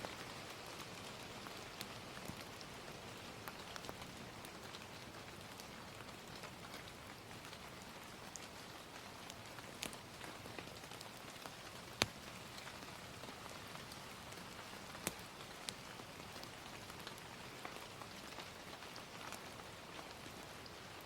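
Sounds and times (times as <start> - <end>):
gentle rain: 0.0 - 21.0
wood fire crackles: 0.0 - 21.0.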